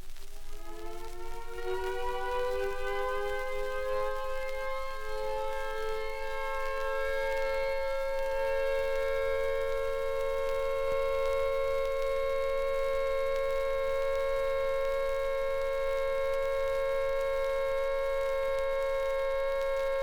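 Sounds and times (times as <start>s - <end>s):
faint record hum: 0.0s - 20.0s
air raid siren: 0.4s - 20.0s.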